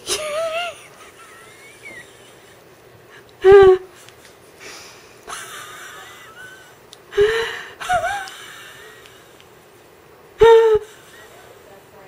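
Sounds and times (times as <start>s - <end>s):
woman laughing breathily: 0.0s - 9.4s, 10.4s - 11.6s.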